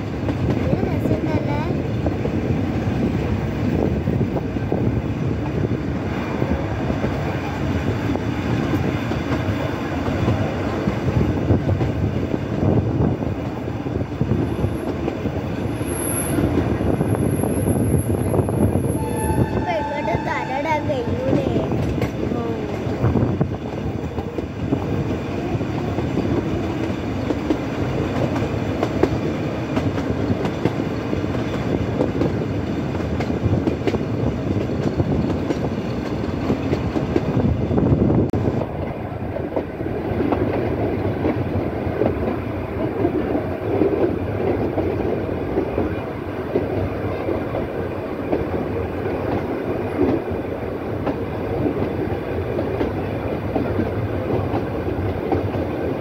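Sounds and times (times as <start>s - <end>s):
train rumble with wheel clatter: 0.0s - 56.0s.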